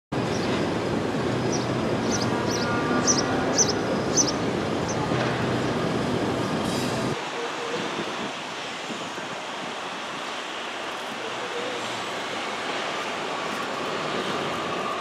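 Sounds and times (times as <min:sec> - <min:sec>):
city street traffic rumble: 0:00.1 - 0:15.0.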